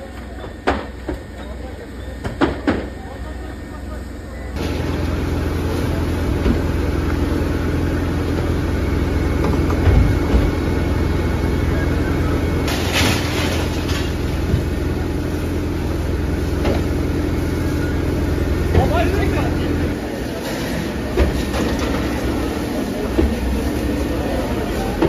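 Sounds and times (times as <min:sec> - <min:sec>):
engine droning: 0:02.8 - 0:25.0.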